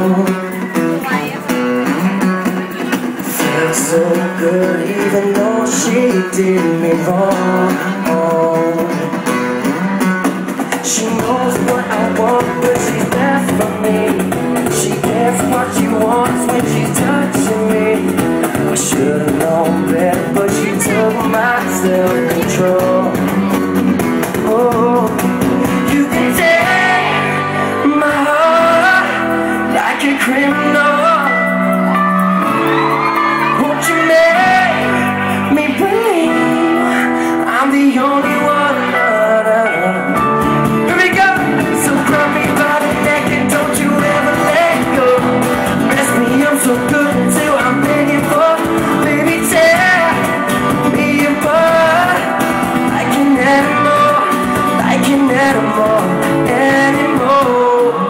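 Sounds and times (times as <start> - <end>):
keyboard: 0.0 - 58.0
man singing: 0.0 - 58.0
strummed acoustic guitars: 0.0 - 58.0.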